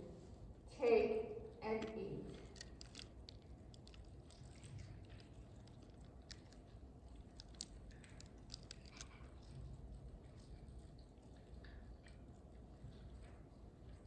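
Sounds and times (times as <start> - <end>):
wafer being chewed: 2.3 - 14.0.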